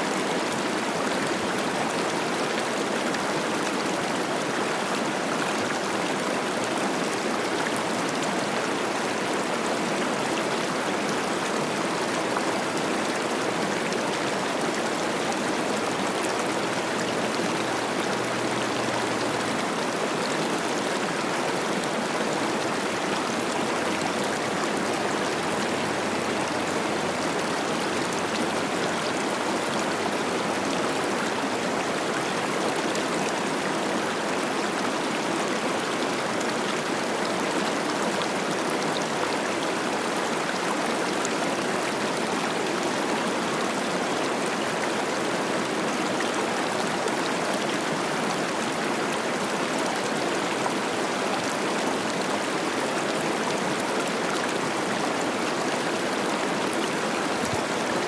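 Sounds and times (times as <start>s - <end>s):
river rushing and babbling: 0.0s - 58.0s.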